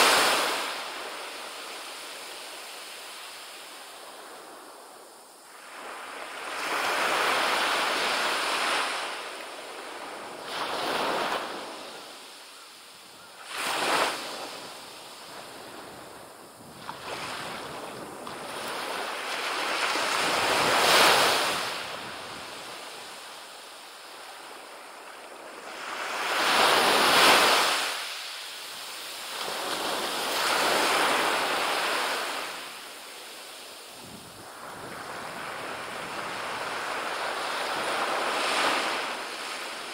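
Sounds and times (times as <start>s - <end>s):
small waves washing up beach: 0.0s - 39.9s.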